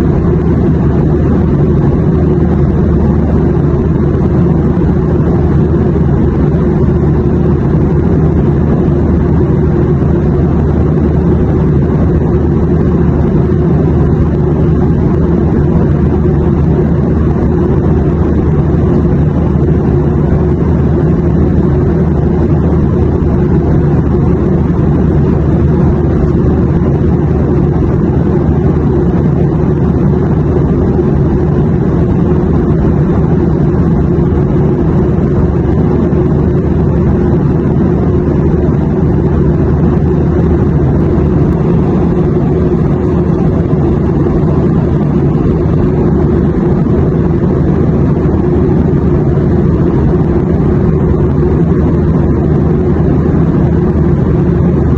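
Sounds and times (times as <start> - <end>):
airplane drone: 0.0 - 54.9.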